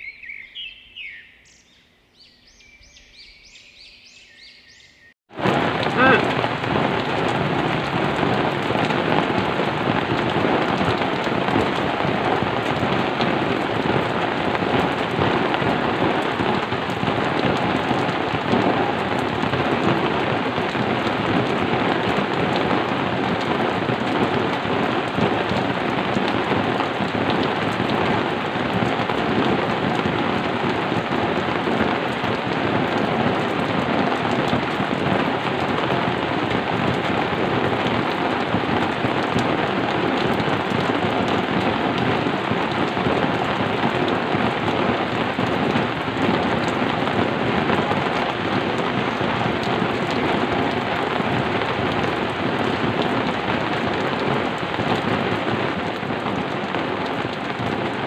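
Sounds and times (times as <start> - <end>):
steady rain falling: 5.3 - 58.0.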